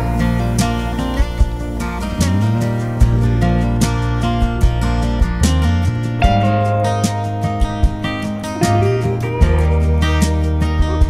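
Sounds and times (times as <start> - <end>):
bass: 0.0 - 11.0
steady drum beat: 0.0 - 11.0
strummed acoustic guitar: 0.0 - 11.0.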